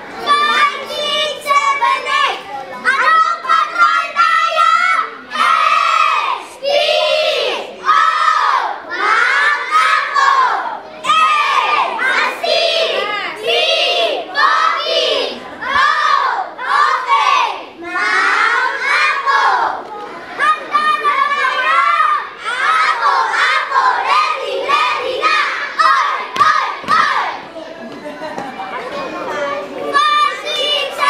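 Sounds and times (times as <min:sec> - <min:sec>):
boys chanting a cheer: 0:00.1 - 0:27.5, 0:28.7 - 0:31.0.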